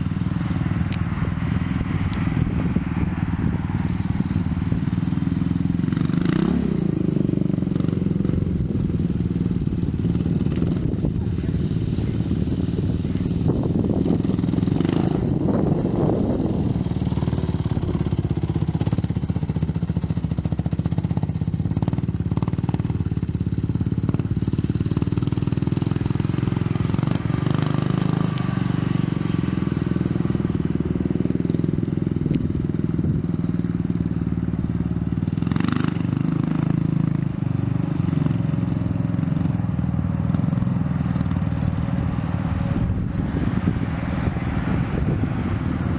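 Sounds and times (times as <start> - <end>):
atv engine droning: 0.0 - 45.9.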